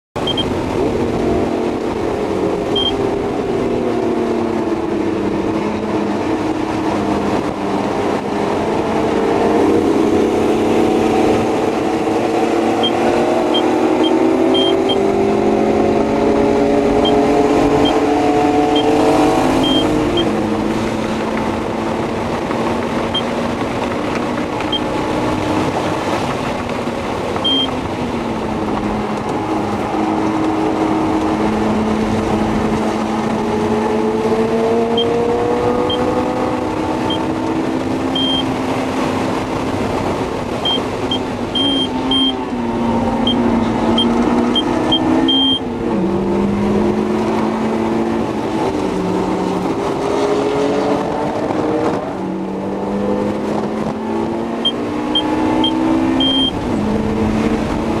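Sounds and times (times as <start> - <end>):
road and wind noise: 0.1 - 58.0
car engine accelerating: 0.2 - 58.0.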